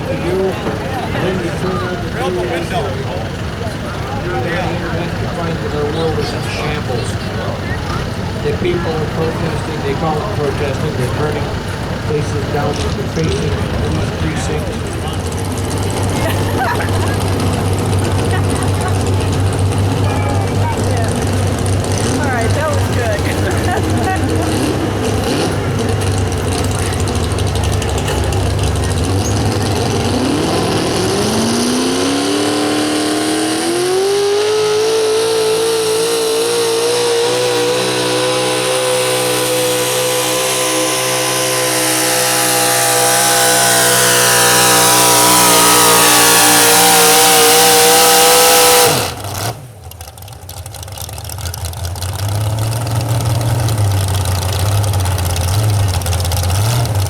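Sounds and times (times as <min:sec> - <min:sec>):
pulling truck engine revving: 0:00.0 - 0:57.0.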